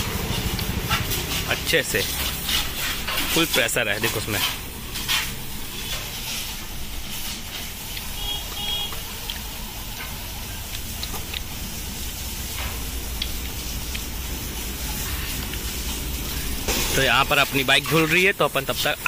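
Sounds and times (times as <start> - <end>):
high-pressure water jet hissing: 0.0 - 19.0.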